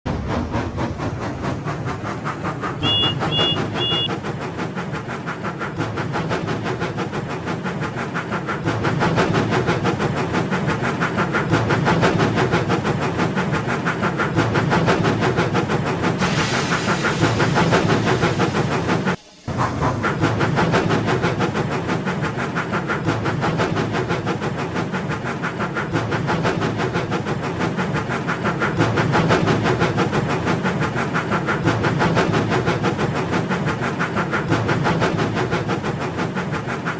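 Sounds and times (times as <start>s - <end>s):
wheels clicking on track: 0.2s - 36.9s.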